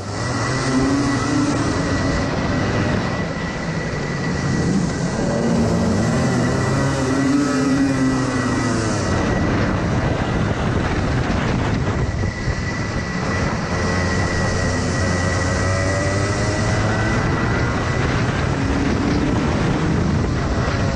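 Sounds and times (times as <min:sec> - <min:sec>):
kart engine revving: 0:00.0 - 0:20.9
other kart engines: 0:00.0 - 0:20.9
thin high whine: 0:00.0 - 0:20.9
wind on microphone: 0:00.0 - 0:20.9.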